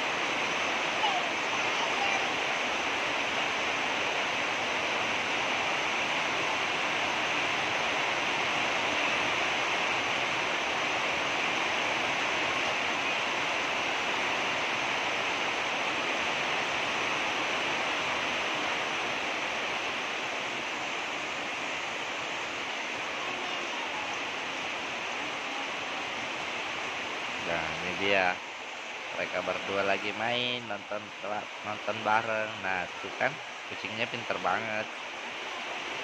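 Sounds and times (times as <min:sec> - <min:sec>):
steady rushing hiss: 0:00.0 - 0:36.0.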